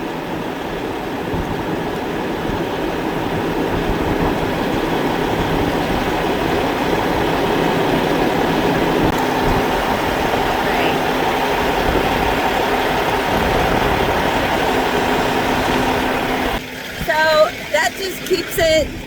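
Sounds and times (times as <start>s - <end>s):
diesel truck engine droning: 0.0s - 19.0s.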